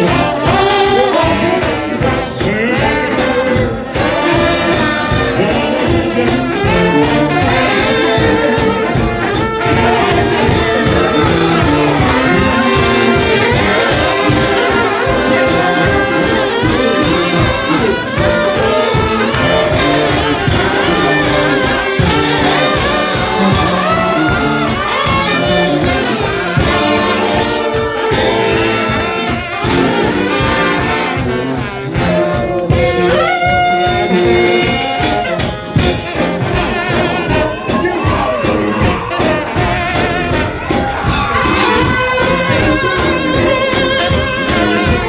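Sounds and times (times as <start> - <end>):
brass band playing: 0.0 - 45.0
drums beating: 0.0 - 45.0.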